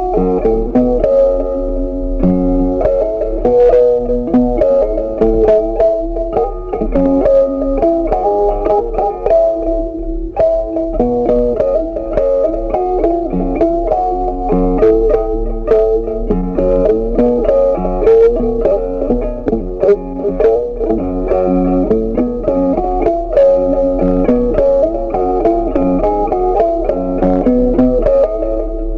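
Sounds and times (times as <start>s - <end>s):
bass line: 0.0s - 28.9s
plucked guitar notes: 0.0s - 28.9s.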